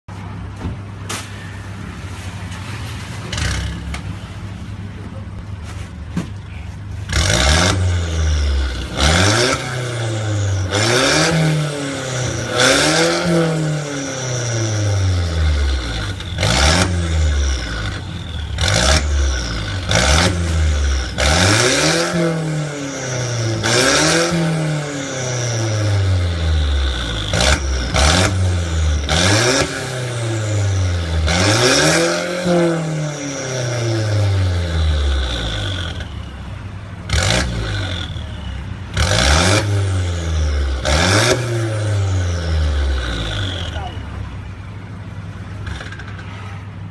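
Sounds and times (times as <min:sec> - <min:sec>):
car engine revving: 0:06.9 - 0:46.6.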